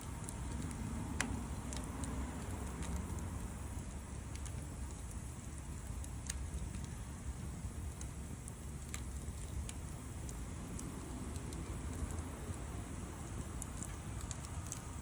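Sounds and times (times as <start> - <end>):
campfire crackles and pops: 0.0 - 15.0
low steady fire rumble: 0.0 - 15.0.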